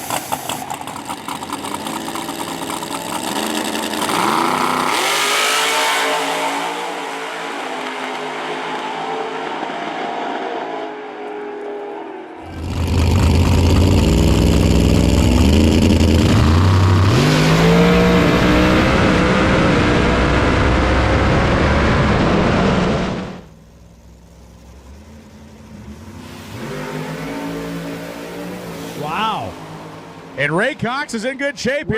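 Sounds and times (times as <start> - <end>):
drag racing car engine: 0.0 - 31.8.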